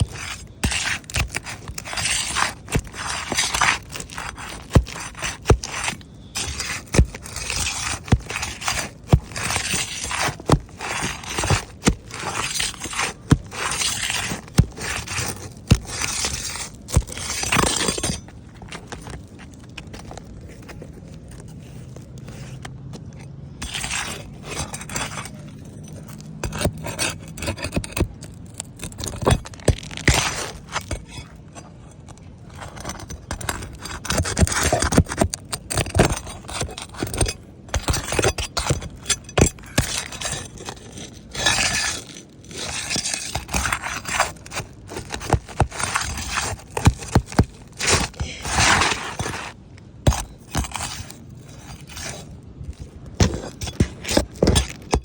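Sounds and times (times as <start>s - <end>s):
gritty scraping of roof shingles: 0.0s - 55.0s.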